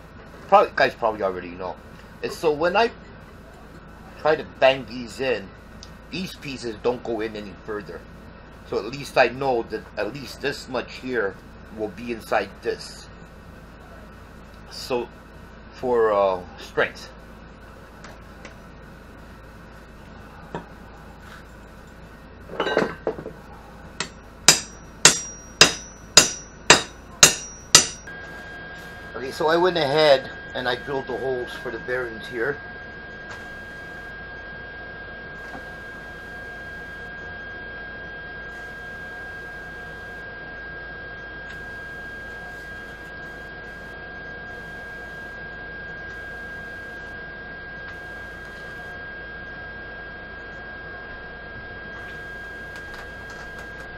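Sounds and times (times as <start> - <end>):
electrical hum with high whine: 0.0 - 53.9.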